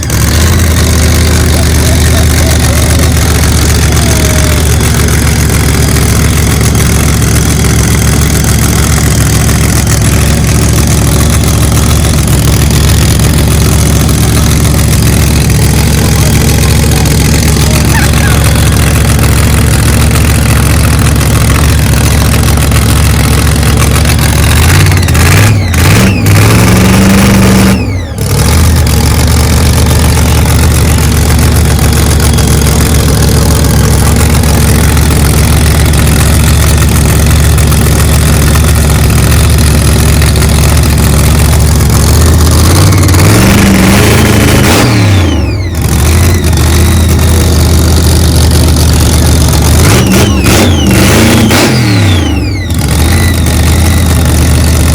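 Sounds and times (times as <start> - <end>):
car engine idling and revving: 0.0 - 54.9.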